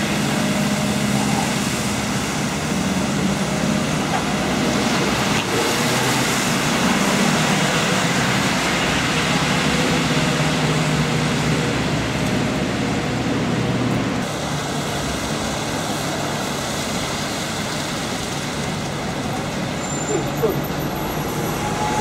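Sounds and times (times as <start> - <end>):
bus engine hum: 0.0 - 22.0
tyres hissing on wet road: 0.0 - 22.0.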